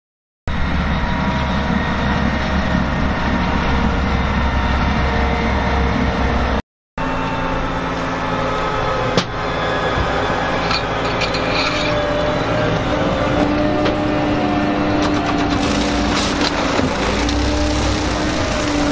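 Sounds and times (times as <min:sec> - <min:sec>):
harvester engine drone: 0:00.5 - 0:18.9.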